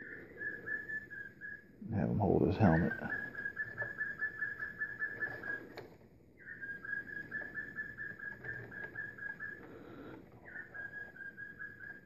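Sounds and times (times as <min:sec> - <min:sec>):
high whistling trill: 0:00.0 - 0:01.8, 0:02.4 - 0:05.7, 0:06.4 - 0:09.6, 0:10.4 - 0:12.0.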